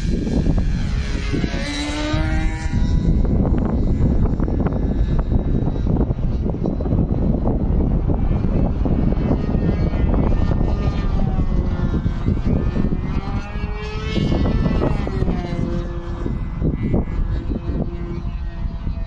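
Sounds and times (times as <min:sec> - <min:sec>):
model airplane motor whining: 0:00.0 - 0:19.0
wind buffeting microphone: 0:00.0 - 0:19.0.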